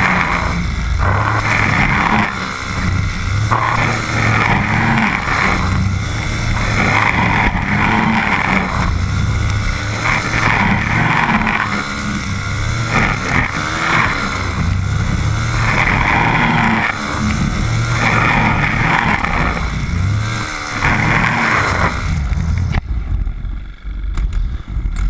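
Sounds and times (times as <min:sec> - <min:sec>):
brush cutter engine at high throttle: 0:00.0 - 0:25.0.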